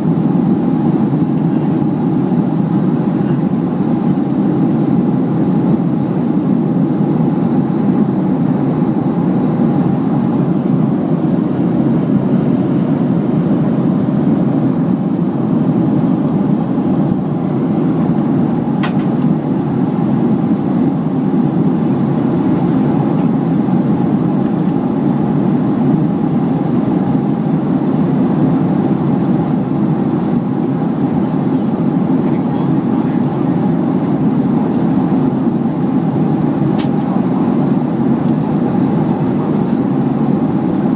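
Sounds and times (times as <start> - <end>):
airliner cabin engine drone: 0.0 - 40.9.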